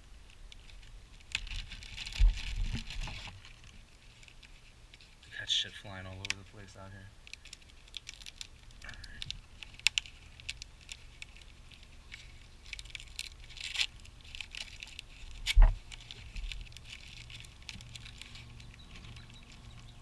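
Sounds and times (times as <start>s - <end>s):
packing material rustling: 0.6s - 5.4s, 7.2s - 20.0s.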